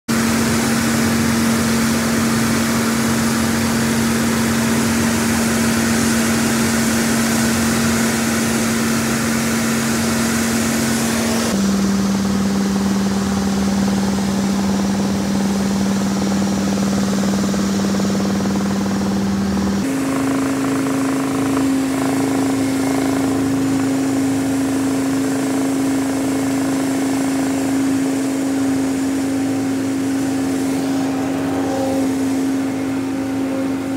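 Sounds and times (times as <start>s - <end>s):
constant hum tone: 0.1s - 33.9s
helicopter engine and rotor drone: 0.1s - 33.9s.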